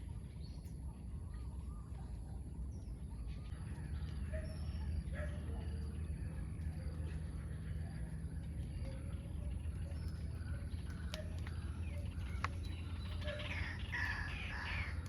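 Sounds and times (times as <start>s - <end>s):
birds chirping: 0.0s - 15.0s
low rumble: 0.0s - 15.0s.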